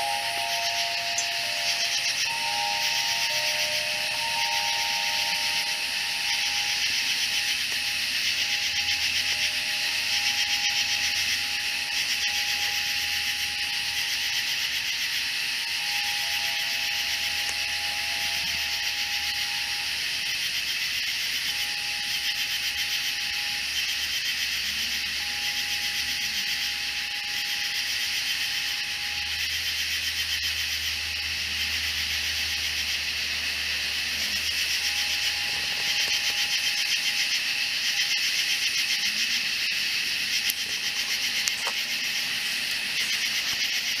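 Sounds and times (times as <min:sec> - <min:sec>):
katydids and cicadas shrilling: 0:00.0 - 0:44.0.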